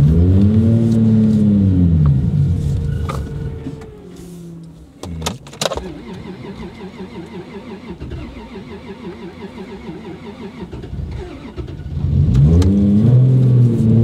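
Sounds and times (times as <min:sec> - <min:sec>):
car engine idling unevenly: 0:00.8 - 0:12.0.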